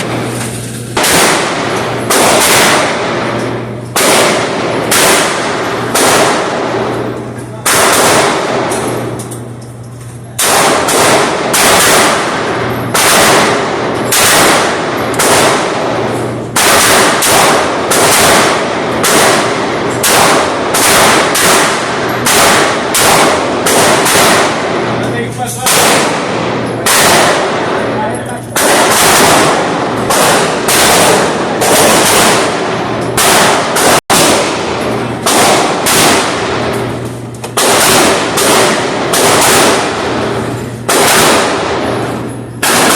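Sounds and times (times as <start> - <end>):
gunshots with ringing echo: 0.0 - 9.6, 10.4 - 42.9.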